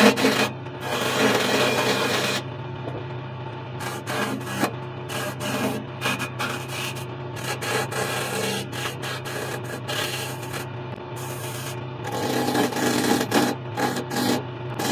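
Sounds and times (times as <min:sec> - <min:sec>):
turning tool scraping wood: 0:00.0 - 0:02.5, 0:03.8 - 0:14.9
lathe motor humming: 0:00.0 - 0:14.9.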